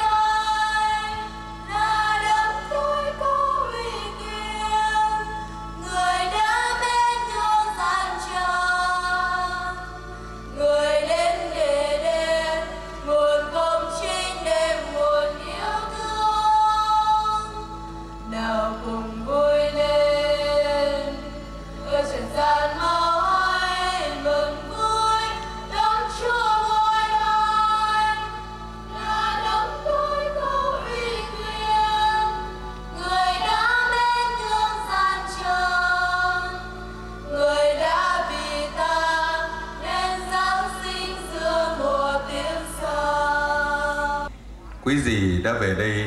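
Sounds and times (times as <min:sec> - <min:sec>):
choir singing a hymn: 0:00.0 - 0:44.3
sustained low accompaniment: 0:00.0 - 0:46.0.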